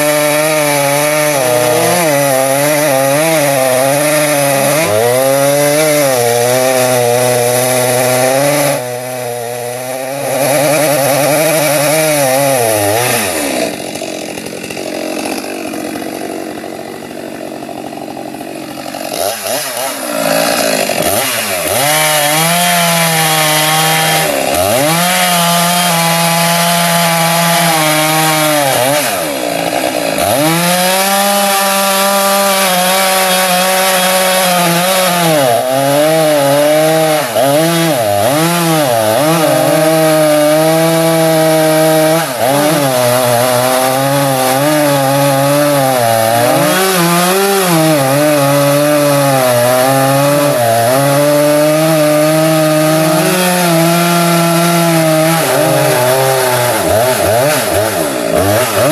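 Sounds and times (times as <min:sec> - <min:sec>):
chainsaw cutting tree: 0:00.0 - 0:58.9.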